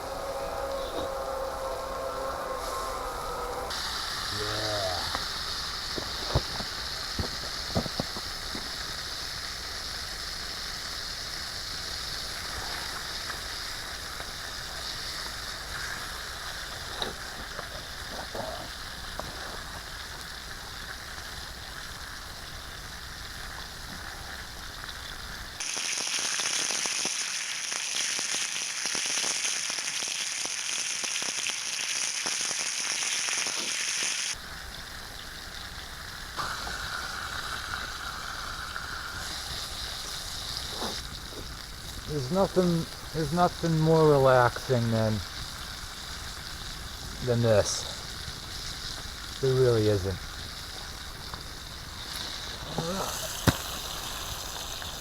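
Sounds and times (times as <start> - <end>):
campfire popping: 0.0 - 55.0
steak sizzling on a grill: 0.0 - 55.0.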